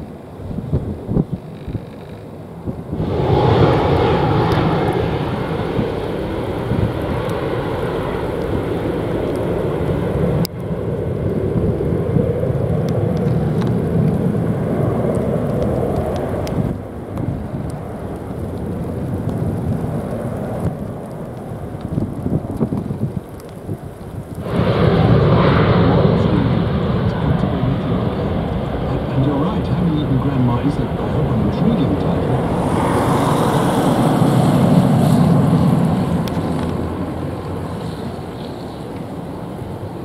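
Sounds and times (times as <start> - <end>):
gusting wind on microphone: 0.0 - 40.0
heavy rain: 0.0 - 40.0.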